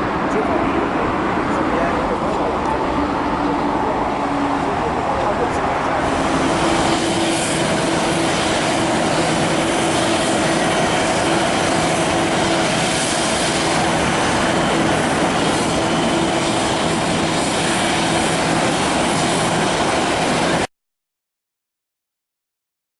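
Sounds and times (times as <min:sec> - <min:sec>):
jet engines roaring: 0:00.0 - 0:20.7.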